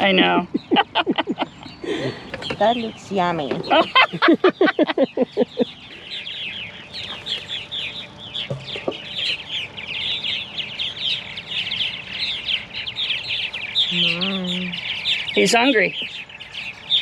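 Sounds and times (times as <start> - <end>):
nestling squeaky begging chirps: 0.0 - 17.0.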